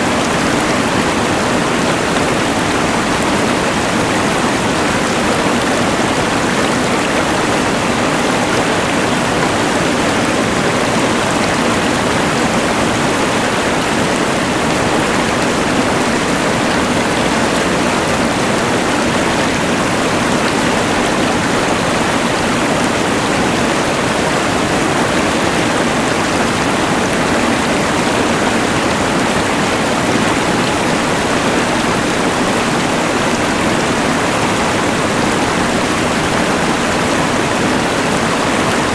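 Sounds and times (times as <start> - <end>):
rushing river: 0.0 - 38.9.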